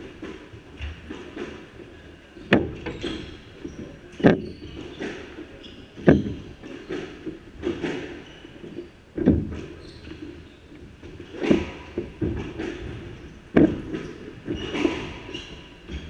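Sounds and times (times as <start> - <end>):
shoes squeaking on court: 2.4 - 16.0.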